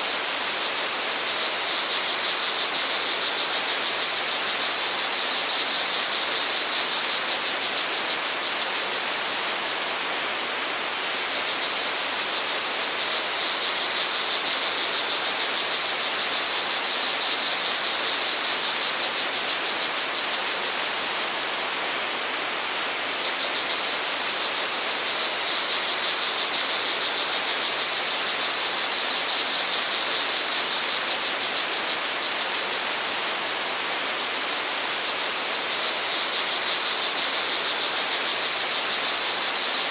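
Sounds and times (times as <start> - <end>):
crickets trilling: 0.0 - 10.0, 10.9 - 21.6, 23.0 - 39.9.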